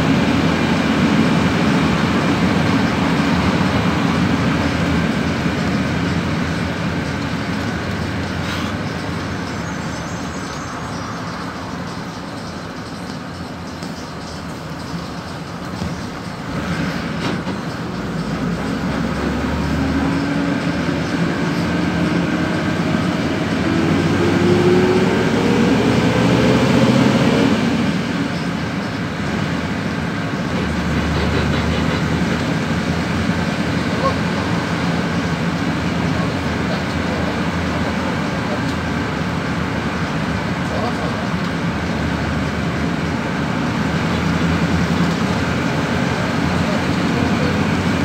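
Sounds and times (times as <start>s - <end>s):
bus engine drone: 0.0s - 48.0s
road noise: 0.0s - 48.0s.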